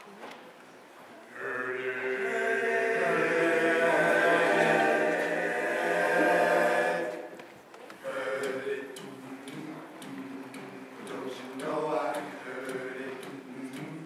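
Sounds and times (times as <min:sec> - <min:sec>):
male group singing in harmony: 0:01.4 - 0:07.4, 0:08.0 - 0:14.0.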